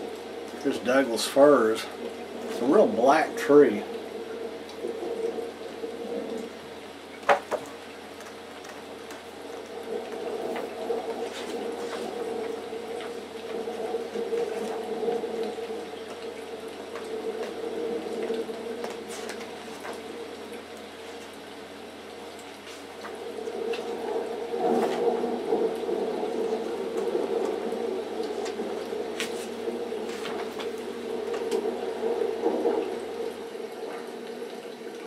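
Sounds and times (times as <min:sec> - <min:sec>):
rushing background noise: 0:00.0 - 0:35.0.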